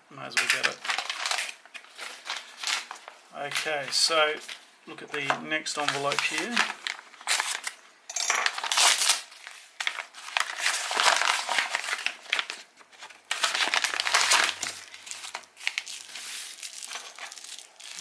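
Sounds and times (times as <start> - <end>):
paper envelope crinkling and tearing: 0.4 - 7.8, 8.4 - 18.0.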